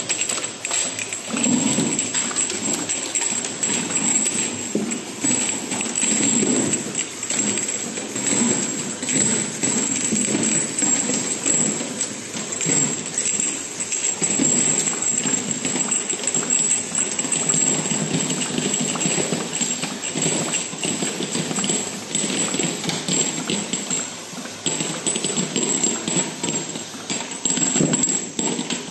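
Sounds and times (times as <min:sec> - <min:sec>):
glass jars clinking: 0:00.0 - 0:28.8
conveyor rollers rattling: 0:00.0 - 0:28.9.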